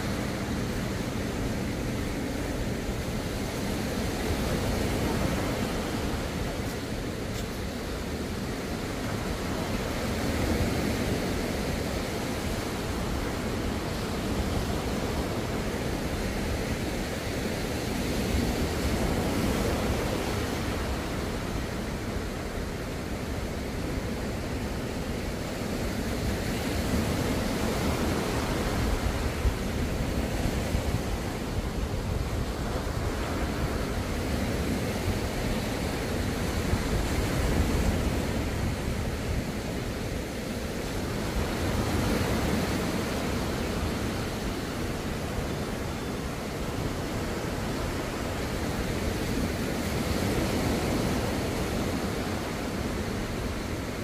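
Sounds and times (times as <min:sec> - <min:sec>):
waves breaking on sandy beach: 0:00.0 - 0:54.0.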